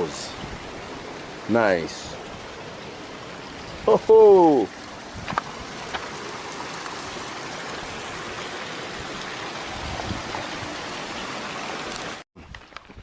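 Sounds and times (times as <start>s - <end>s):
waterfall rushing over rocks: 0.0s - 12.2s.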